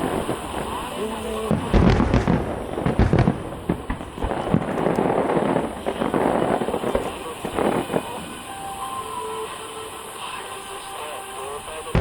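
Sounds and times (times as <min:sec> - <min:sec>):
fireworks crackling: 0:00.0 - 0:12.0
fireworks shells bursting with booms: 0:00.0 - 0:12.0.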